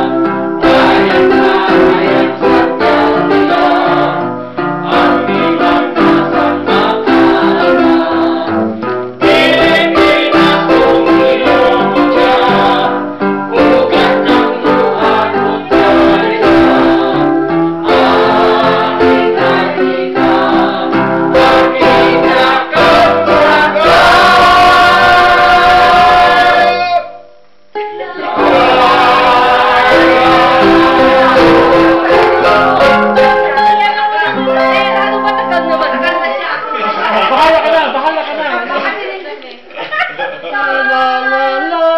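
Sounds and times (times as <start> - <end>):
electronic keyboard accompaniment: 0.0 - 26.8, 28.2 - 37.5
choir singing: 0.0 - 27.0, 28.0 - 37.6.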